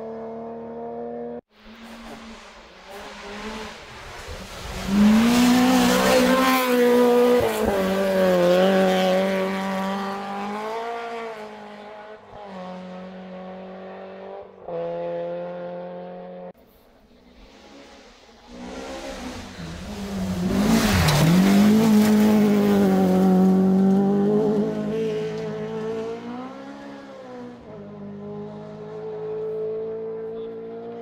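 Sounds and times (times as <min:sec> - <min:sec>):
rally car engine at full throttle: 0:00.0 - 0:31.0.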